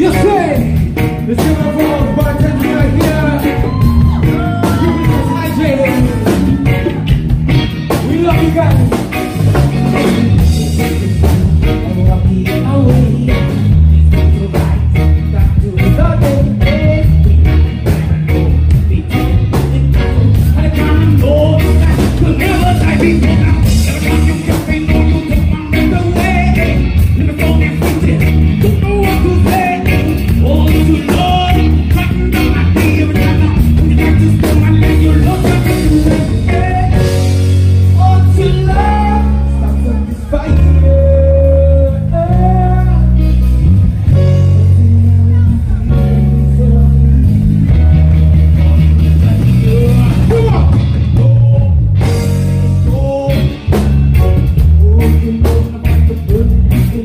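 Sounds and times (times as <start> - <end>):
heavy bass line: 0.0 - 57.0
live band playing: 0.0 - 57.0.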